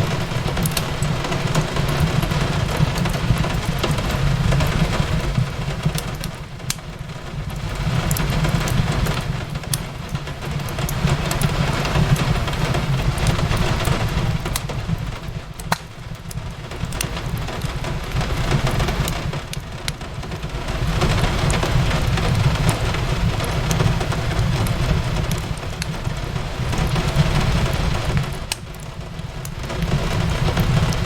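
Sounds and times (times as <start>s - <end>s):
fireplace crackling and popping: 0.0s - 31.0s
rain hissing: 0.0s - 31.0s.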